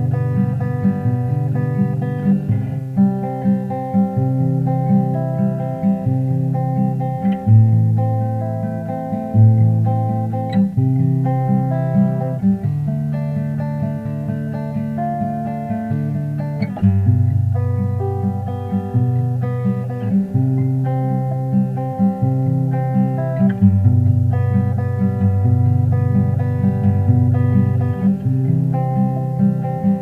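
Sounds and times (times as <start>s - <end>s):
plucked acoustic guitar melody: 0.0s - 30.0s.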